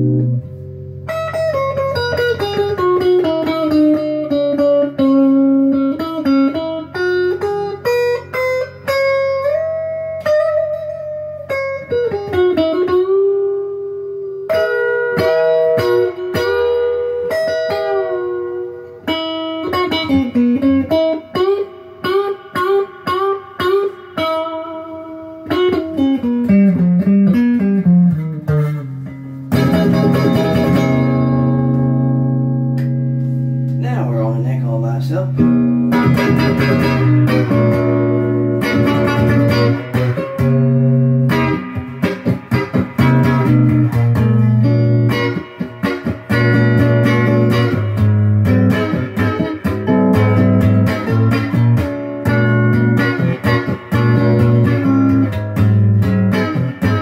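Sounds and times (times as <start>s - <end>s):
electric guitar melody: 0.0s - 57.0s.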